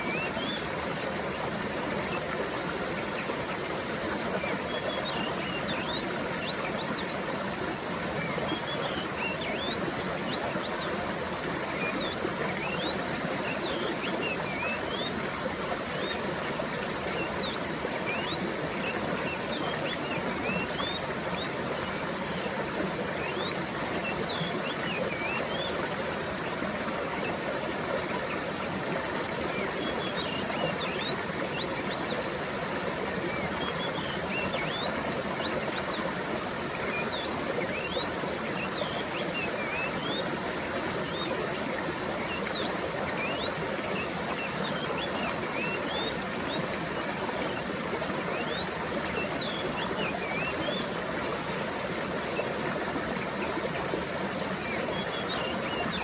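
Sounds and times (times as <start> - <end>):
stream flowing: 0.0 - 56.0
small birds chirping: 4.0 - 56.0.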